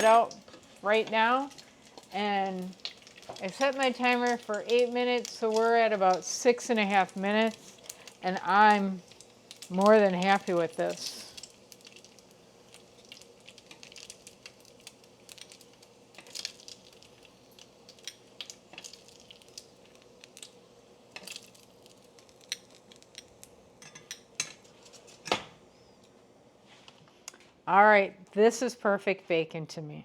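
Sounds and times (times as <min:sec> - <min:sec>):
faint crackle: 0:00.0 - 0:27.5.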